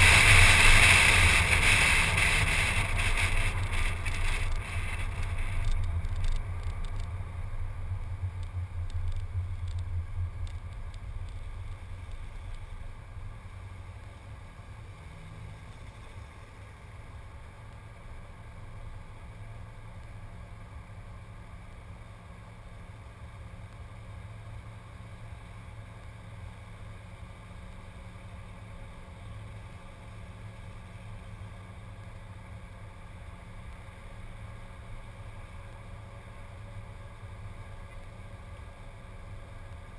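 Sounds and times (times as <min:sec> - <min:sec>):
car wind and road noise: 0:00.0 - 0:39.9
engine idling low rumble: 0:00.0 - 0:39.9.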